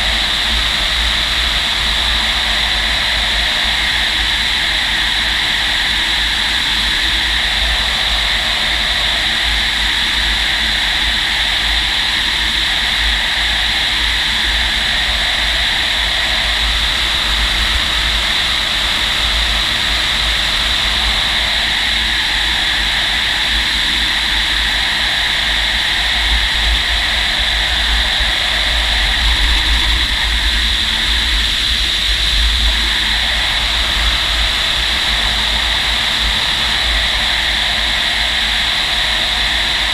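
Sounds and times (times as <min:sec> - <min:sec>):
airflow hiss in glider cockpit: 0:00.0 - 0:39.9.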